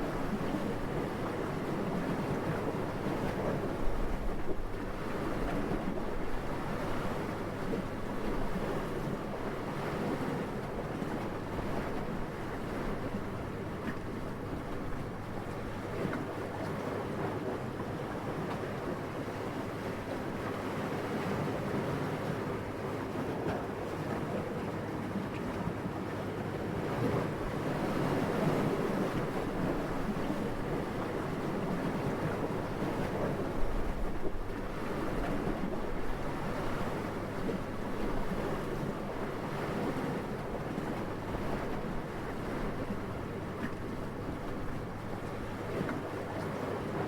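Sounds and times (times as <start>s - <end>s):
gentle wind: 0.0s - 47.0s.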